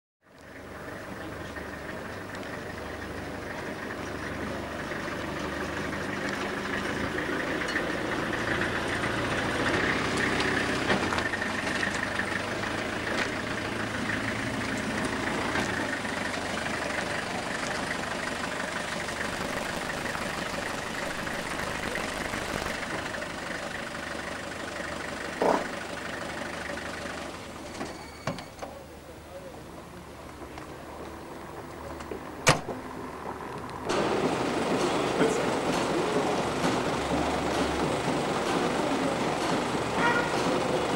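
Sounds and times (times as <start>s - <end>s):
engine idling: 0.3s - 40.9s.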